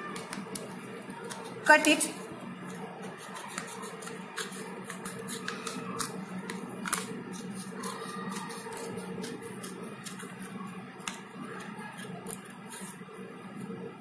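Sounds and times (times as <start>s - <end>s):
scissors cutting paper: 0.0s - 13.1s.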